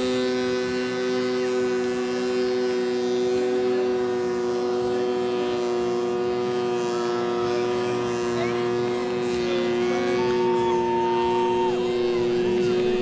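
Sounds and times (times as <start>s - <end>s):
snowmobile engine droning: 0.0s - 13.0s.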